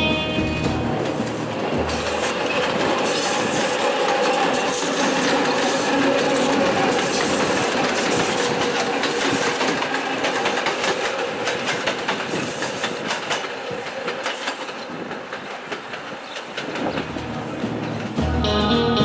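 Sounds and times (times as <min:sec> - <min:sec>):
train rolling rumble: 0:00.0 - 0:18.6
train wheels clacking over rail joints: 0:00.7 - 0:18.2.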